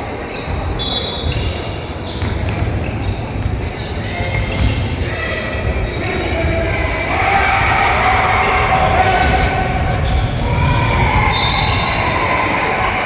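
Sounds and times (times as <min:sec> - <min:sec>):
voices in echoing hall: 0:00.0 - 0:13.0.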